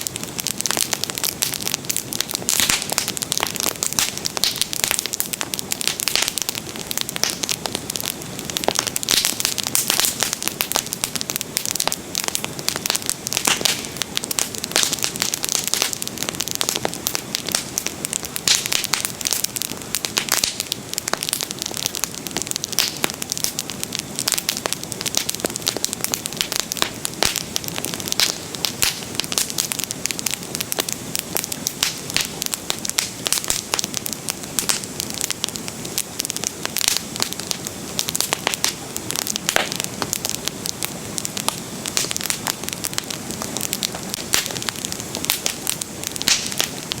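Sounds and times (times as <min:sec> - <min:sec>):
bonfire crackling and popping: 0:00.0 - 0:47.0.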